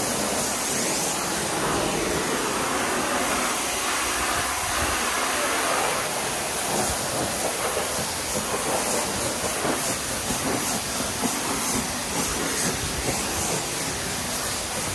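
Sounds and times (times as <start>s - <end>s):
pressure washer spraying water: 0.0s - 14.9s.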